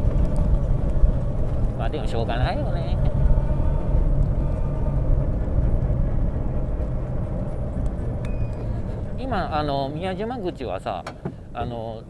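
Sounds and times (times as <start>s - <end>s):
mini jeep engine: 0.0s - 12.0s
road rumble: 0.0s - 12.0s.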